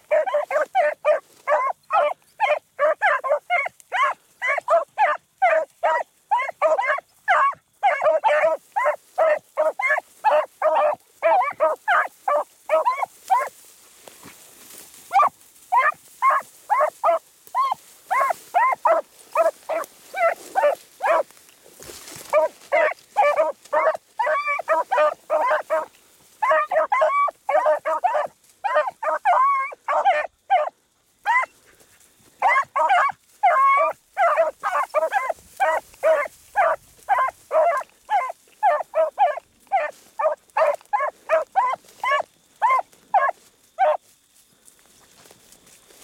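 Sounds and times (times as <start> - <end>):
beagles baying: 0.0 - 44.1.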